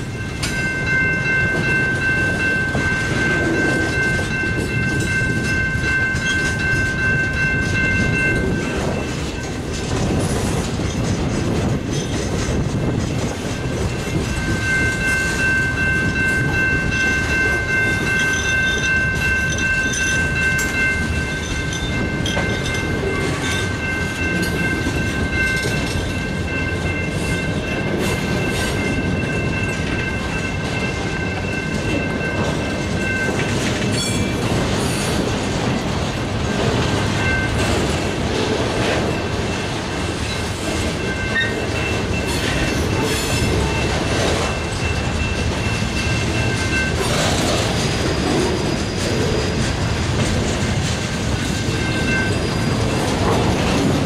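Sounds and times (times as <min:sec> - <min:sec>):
freight cars rumbling and clattering: 0:00.0 - 0:54.0.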